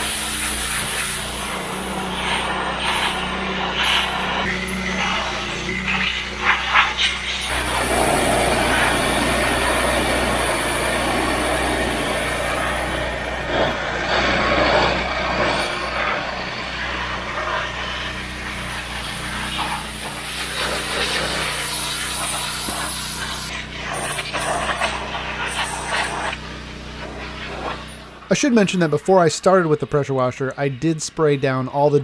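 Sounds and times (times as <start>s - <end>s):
low motor hum: 0.0s - 29.7s
pressure washer spray hissing on metal: 0.0s - 31.2s.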